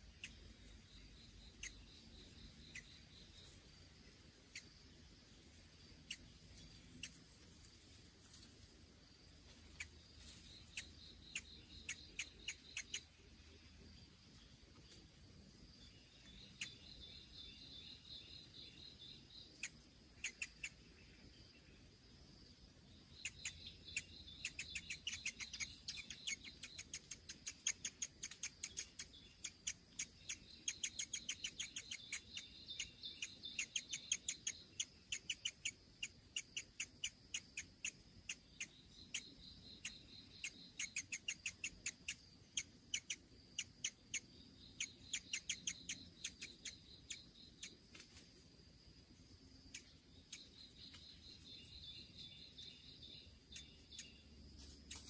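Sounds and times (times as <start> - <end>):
nestling bird chirping: 0.0 - 8.5, 9.2 - 15.1, 15.7 - 48.2, 49.0 - 55.0
insects droning: 0.0 - 55.0.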